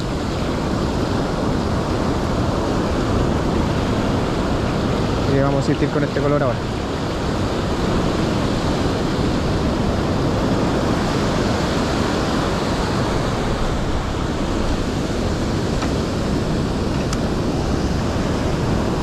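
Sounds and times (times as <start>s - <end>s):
ocean waves breaking on beach: 0.0s - 19.0s
wind on microphone: 0.0s - 19.0s.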